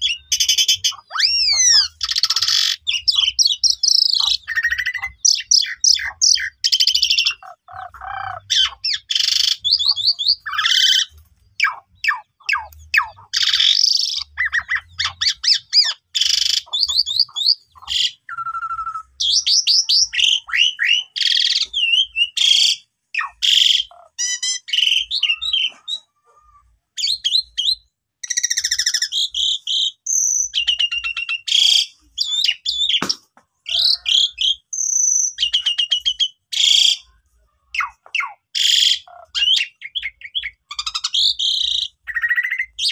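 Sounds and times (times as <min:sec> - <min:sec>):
starling singing: 0:00.0 - 0:42.9.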